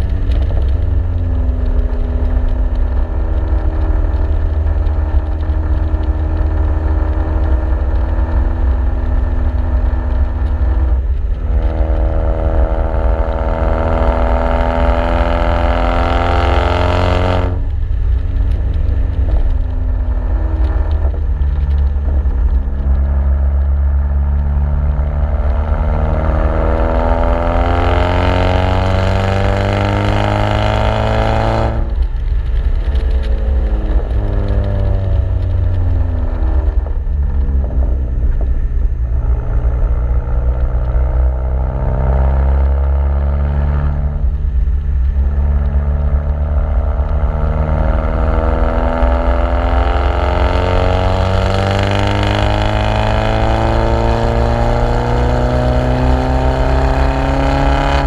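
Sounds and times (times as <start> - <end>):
car exhaust revving: 0.0 - 58.0
deep rumble: 0.0 - 58.0.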